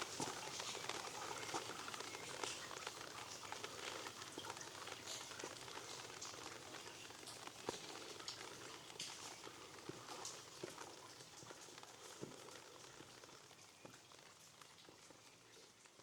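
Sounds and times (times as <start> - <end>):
light rain hiss: 0.0 - 16.0.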